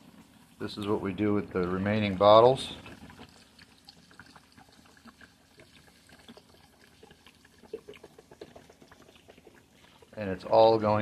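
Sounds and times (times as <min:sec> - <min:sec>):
liquid trickling into bucket: 0:00.0 - 0:11.0.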